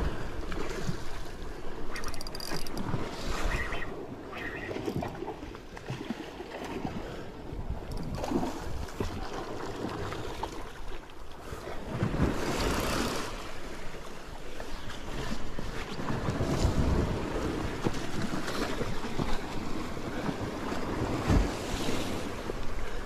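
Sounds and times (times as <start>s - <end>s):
sea waves against rocks: 0.0s - 23.0s.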